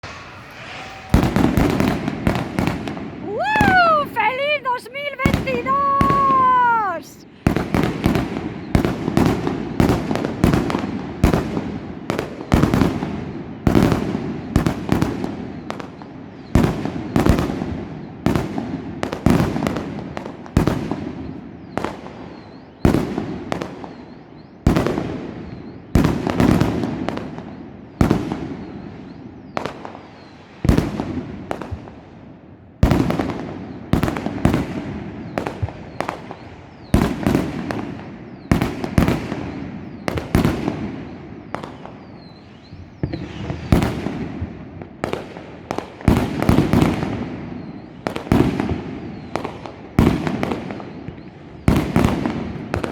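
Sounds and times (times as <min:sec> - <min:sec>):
fireworks bangs: 0:00.0 - 0:32.1, 0:32.8 - 0:52.9.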